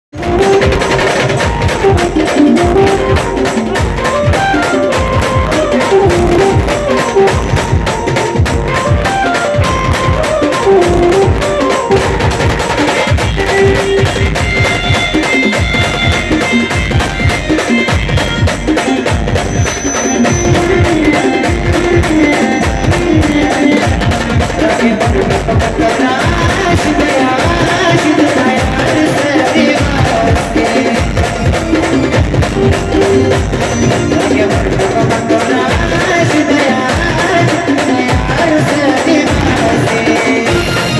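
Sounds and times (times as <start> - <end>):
band playing folk melody: 0.1 - 40.9
fast driving drum beat: 0.1 - 40.9.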